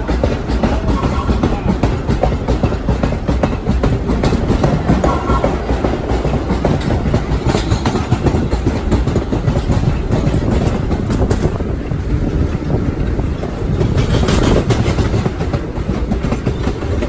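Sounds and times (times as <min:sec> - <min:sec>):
subway car rumbling: 0:00.0 - 0:17.0
wheels clattering over rail joints: 0:00.0 - 0:17.0.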